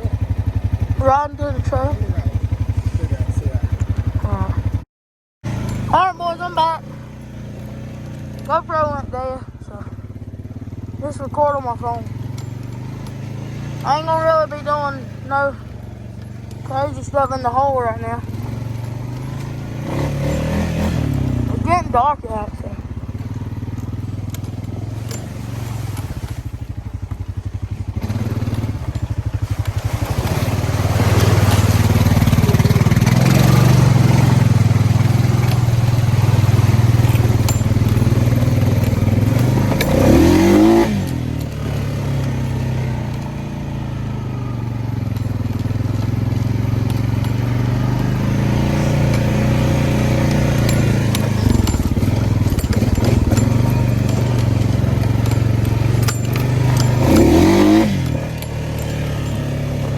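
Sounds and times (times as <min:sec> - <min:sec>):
atv engine running through mud: 0:00.0 - 0:04.8, 0:05.4 - 0:59.9.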